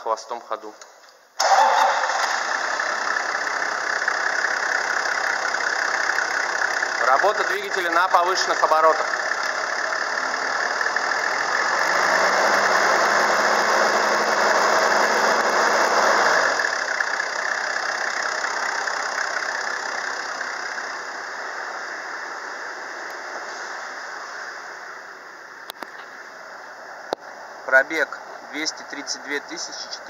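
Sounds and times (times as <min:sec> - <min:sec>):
diesel engine revving: 0:01.4 - 0:25.8.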